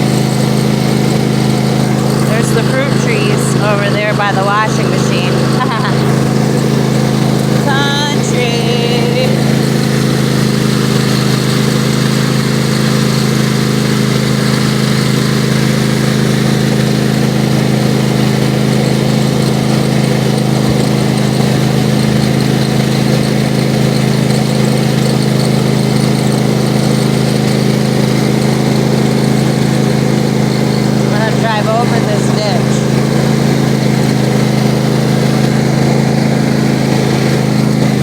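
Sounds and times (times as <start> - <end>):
riding lawnmower engine running: 0.0 - 38.0.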